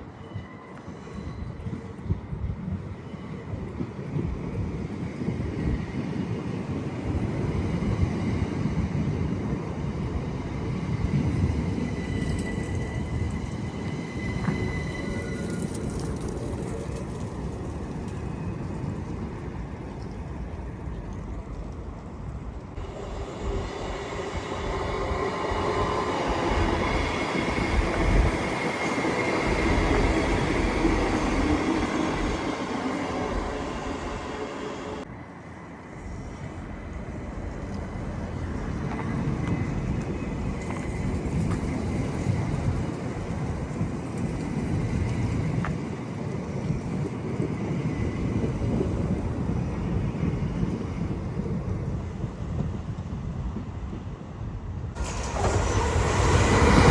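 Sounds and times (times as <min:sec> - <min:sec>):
train rumbling on track: 0:00.0 - 0:56.9.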